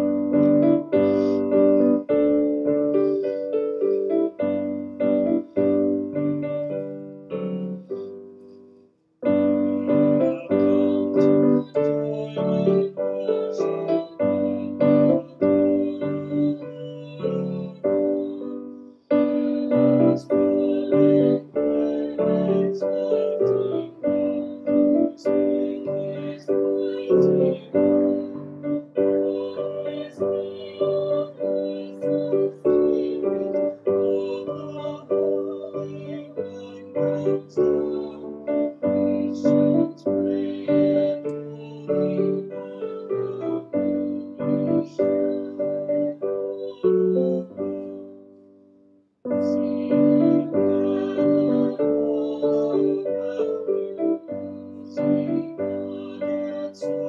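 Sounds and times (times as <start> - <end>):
piano playing hymn chords: 0.0 - 48.6, 49.3 - 57.0.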